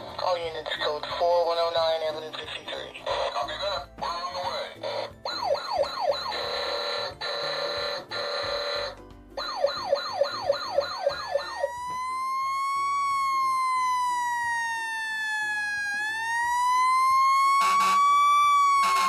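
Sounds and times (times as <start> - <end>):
toy fire engine siren: 2.7 - 19.0.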